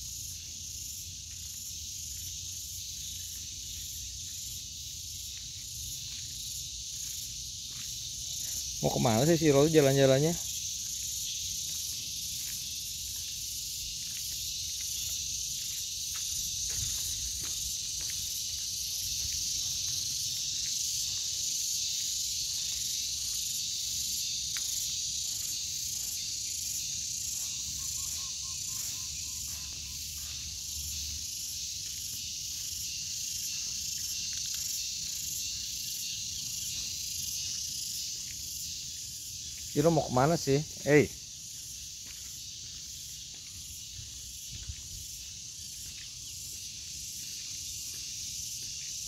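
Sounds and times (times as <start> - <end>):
shrill insect chorus: 0.0 - 49.0.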